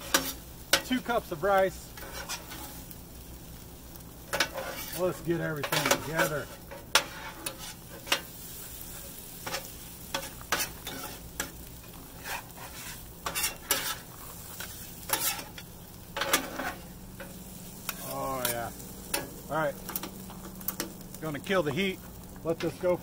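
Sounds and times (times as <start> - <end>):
spatula scraping on steel griddle: 0.0 - 1.3, 1.9 - 3.0, 3.9 - 21.1
rice sizzling: 0.0 - 23.0.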